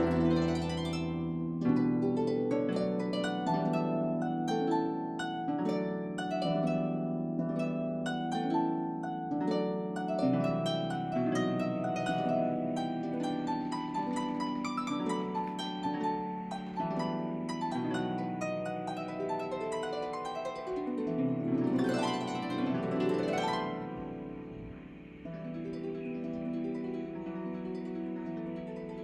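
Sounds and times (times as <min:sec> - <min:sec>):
plucked string music: 0:00.0 - 0:06.9, 0:07.6 - 0:29.0.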